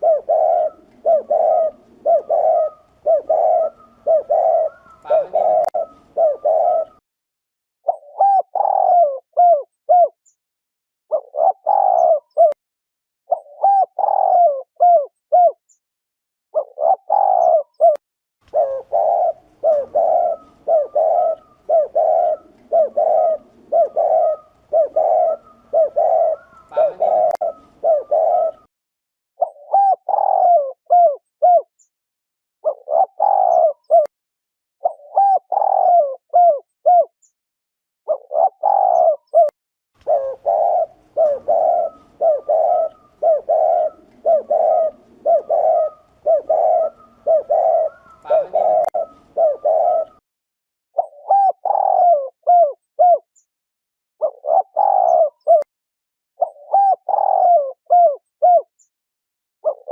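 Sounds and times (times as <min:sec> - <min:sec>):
dove cooing: 0:00.0 - 0:07.0, 0:07.9 - 0:10.2, 0:11.1 - 0:12.6, 0:13.3 - 0:15.6, 0:16.6 - 0:28.7, 0:29.4 - 0:31.7, 0:32.6 - 0:34.1, 0:34.8 - 0:37.1, 0:38.1 - 0:50.2, 0:51.0 - 0:53.3, 0:54.2 - 0:55.7, 0:56.4 - 0:58.7, 0:59.6 - 0:59.9.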